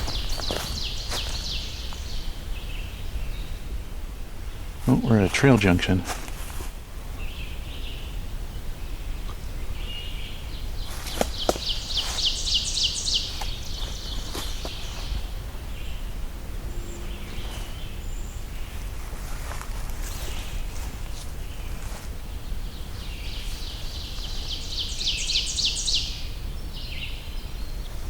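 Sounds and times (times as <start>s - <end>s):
faint bird calls: 0.0s - 6.5s, 7.1s - 28.0s
low rumble of wind: 0.0s - 28.0s.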